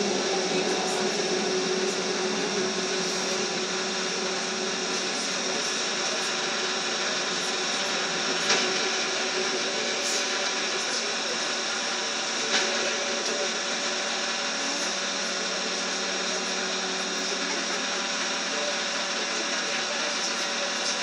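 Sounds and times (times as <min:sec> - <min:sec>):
trolleybus electric whine and hum: 0:00.0 - 0:21.0.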